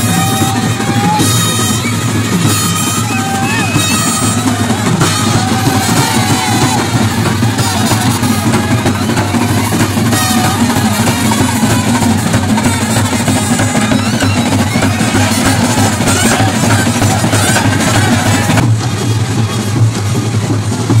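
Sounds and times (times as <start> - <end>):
bass drum: 0.0 - 21.0
brass band playing: 0.0 - 21.0.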